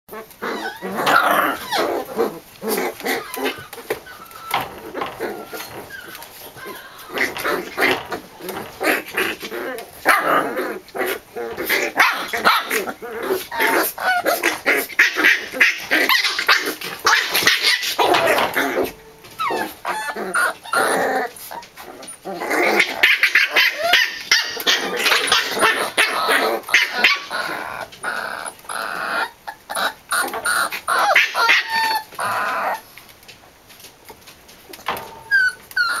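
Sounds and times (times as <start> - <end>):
puppies barking and growling: 0.1 - 36.0.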